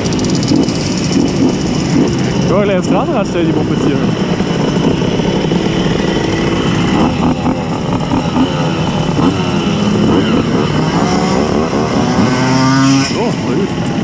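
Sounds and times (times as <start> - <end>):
moped engines revving: 0.0 - 14.0.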